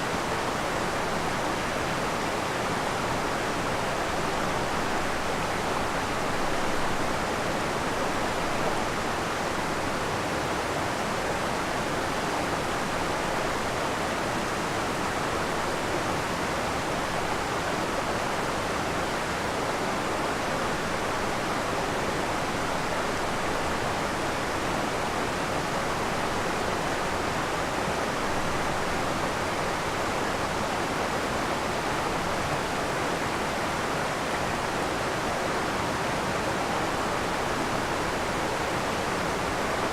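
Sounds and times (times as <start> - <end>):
waterfall roaring over rock: 0.0 - 39.9.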